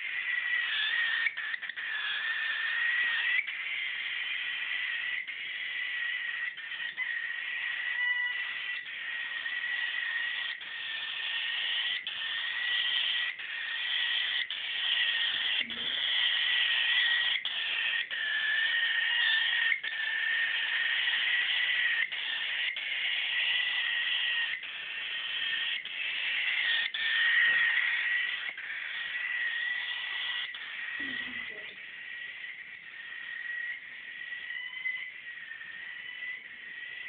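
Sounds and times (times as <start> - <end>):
cockatiel begging call: 0.0 - 37.0.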